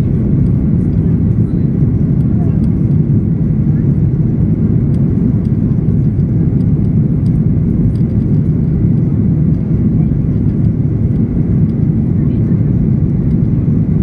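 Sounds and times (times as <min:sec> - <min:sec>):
airplane cabin engine roar: 0:00.0 - 0:14.0.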